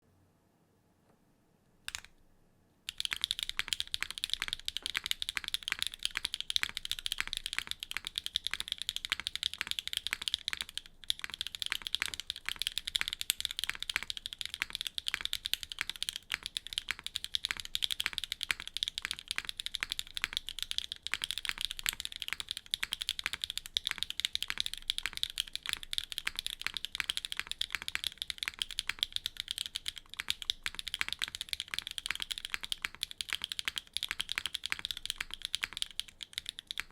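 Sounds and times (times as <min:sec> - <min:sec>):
mechanical keyboard typing: 0:01.9 - 0:02.2, 0:02.9 - 0:36.9.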